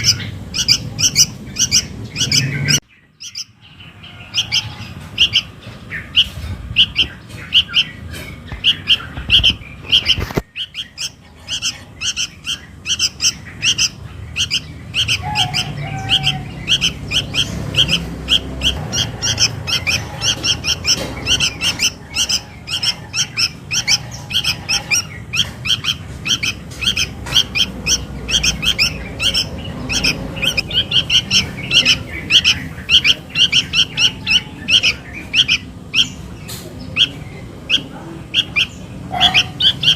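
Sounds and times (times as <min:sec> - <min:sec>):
young bird begging calls: 0:00.0 - 0:39.9.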